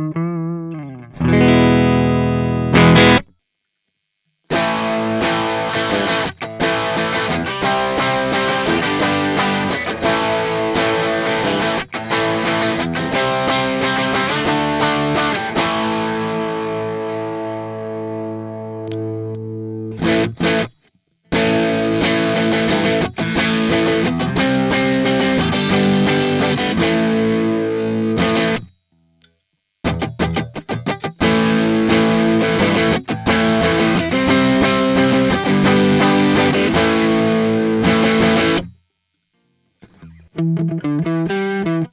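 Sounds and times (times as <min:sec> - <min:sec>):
electric guitar through amp: 0:00.0 - 0:03.3, 0:04.5 - 0:28.8, 0:29.8 - 0:38.8, 0:39.8 - 0:41.9.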